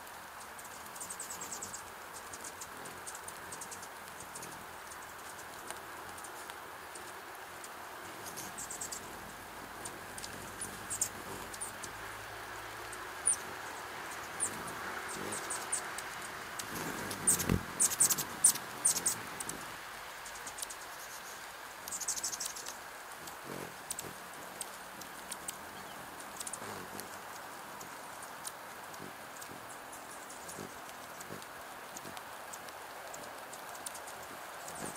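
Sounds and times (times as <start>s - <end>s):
rain patter: 0.0s - 34.9s
hummingbirds high chip calls: 0.6s - 32.2s, 33.1s - 34.9s.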